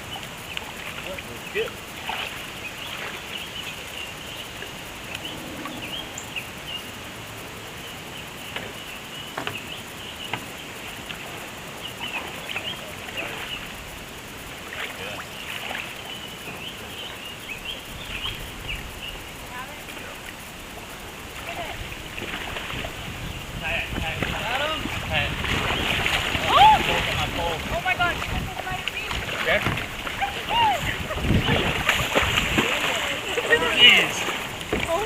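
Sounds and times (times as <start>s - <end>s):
birds chirping: 0.0s - 35.0s
flowing river water: 0.0s - 35.0s.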